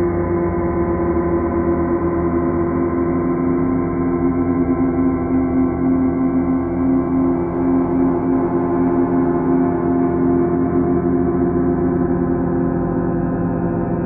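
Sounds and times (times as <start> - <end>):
deep layered drone: 0.0 - 14.0.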